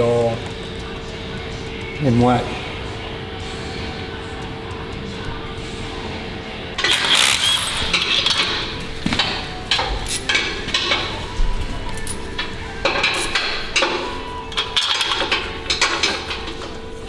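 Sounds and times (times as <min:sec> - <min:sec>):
metal tools clanking: 0:00.0 - 0:17.0.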